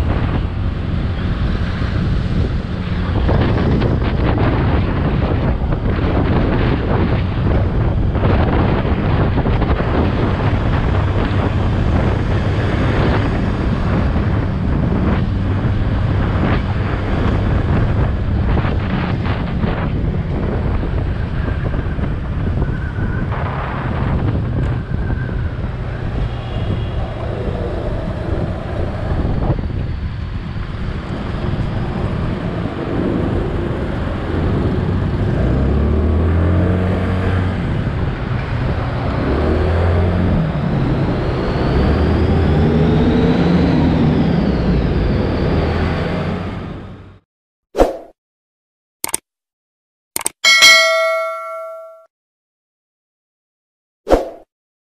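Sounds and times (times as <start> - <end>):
wind buffeting microphone: 0.0 - 46.8.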